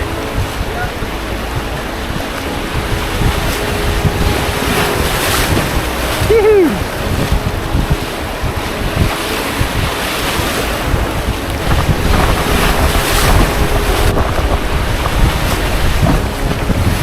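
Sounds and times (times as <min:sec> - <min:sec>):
rushing whitewater: 0:00.0 - 0:17.0
water splashes: 0:00.0 - 0:17.0
wind buffeting microphone: 0:00.0 - 0:17.0.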